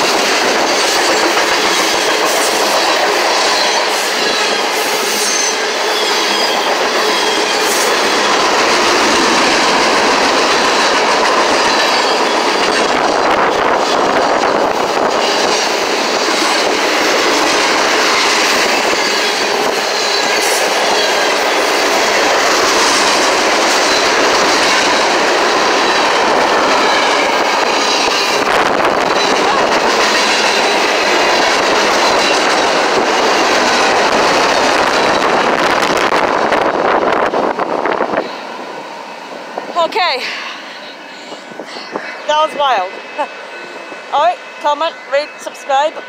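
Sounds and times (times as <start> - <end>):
train passing: 0.0 - 46.0.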